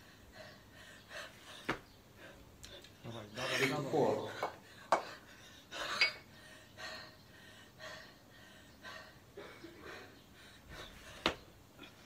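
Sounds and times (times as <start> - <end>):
woman breathing hard: 0.0 - 2.8, 4.6 - 12.0.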